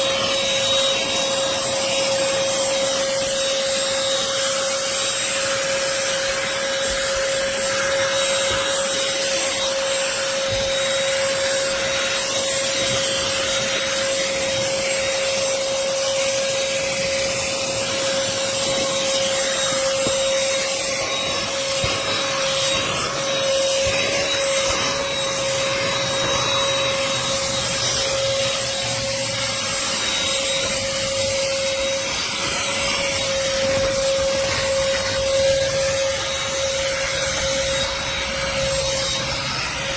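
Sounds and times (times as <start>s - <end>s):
handheld vacuum running: 0.0s - 39.9s.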